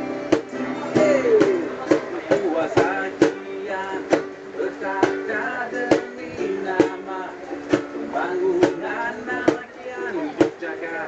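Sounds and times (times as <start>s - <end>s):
acoustic guitar and ukulele strumming: 0.0s - 11.0s
voices singing: 0.0s - 11.0s.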